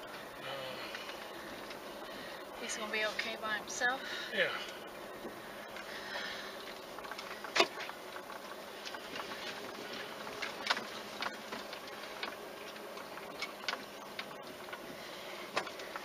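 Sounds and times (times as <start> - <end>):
car rolling on gravel: 0.0 - 16.0.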